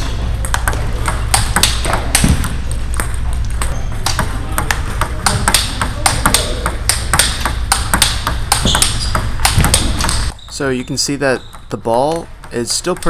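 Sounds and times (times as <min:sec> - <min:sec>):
ping pong ball hitting paddles: 0:00.0 - 0:13.0
ball bouncing on table: 0:00.4 - 0:10.6, 0:11.4 - 0:13.0.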